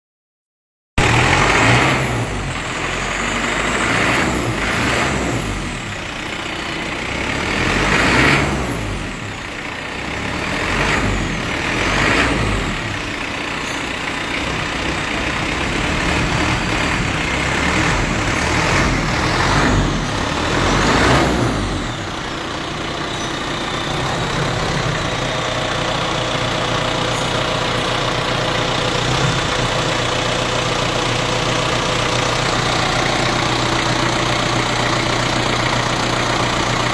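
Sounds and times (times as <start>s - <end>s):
diesel engine revving and idling: 1.0s - 36.9s.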